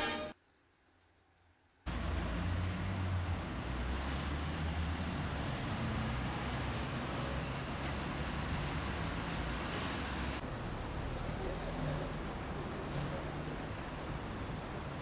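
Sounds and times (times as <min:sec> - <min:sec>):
distant traffic: 0:01.9 - 0:15.0.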